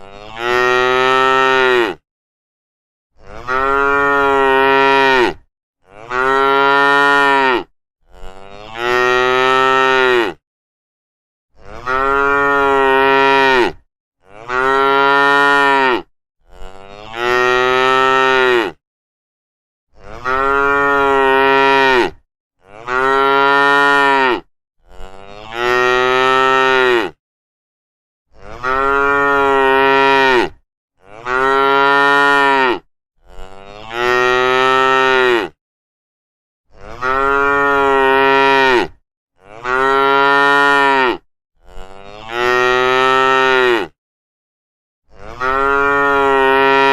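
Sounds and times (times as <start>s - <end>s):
cattle mooing: 0.1s - 2.0s, 3.2s - 10.4s, 11.6s - 18.8s, 20.1s - 27.2s, 28.4s - 35.6s, 36.7s - 44.0s, 45.2s - 46.9s.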